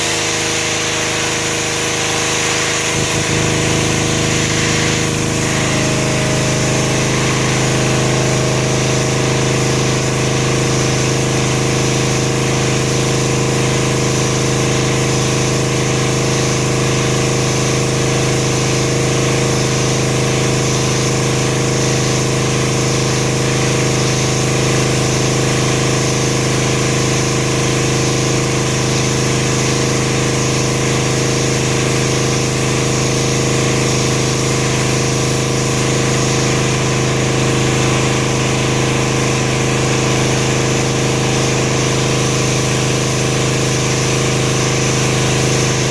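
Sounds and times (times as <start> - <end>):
pressure washer engine drone: 0.0 - 45.9
water spray hiss: 0.0 - 45.9.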